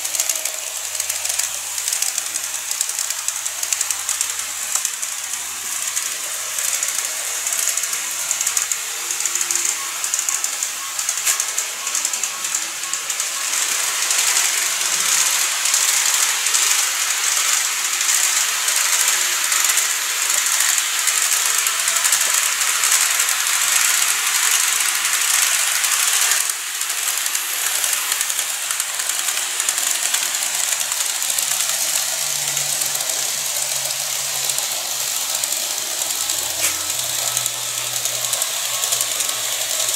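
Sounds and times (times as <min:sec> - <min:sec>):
model train motors whirring: 0:00.0 - 0:39.9
rattle of fine clicks: 0:00.0 - 0:39.9.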